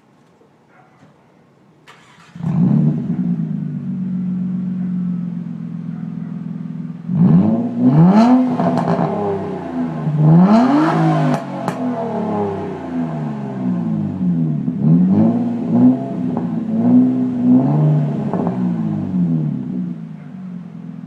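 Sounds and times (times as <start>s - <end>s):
car engine idling and revving: 2.0s - 21.0s.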